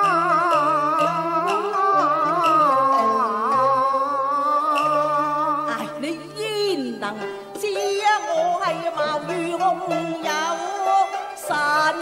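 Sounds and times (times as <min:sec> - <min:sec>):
instrumental accompaniment with bass: 0:00.0 - 0:12.0
woman singing opera: 0:00.0 - 0:12.0.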